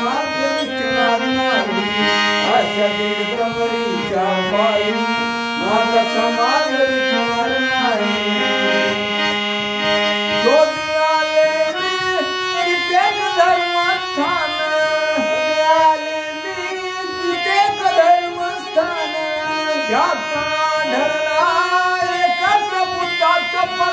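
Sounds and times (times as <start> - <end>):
harmonium: 0.0 - 23.9
man singing: 0.0 - 23.9.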